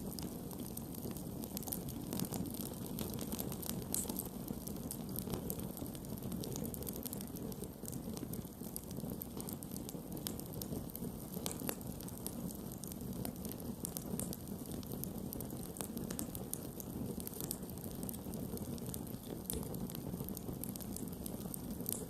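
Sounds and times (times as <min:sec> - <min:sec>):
wood crackling and popping: 0:00.0 - 0:22.0.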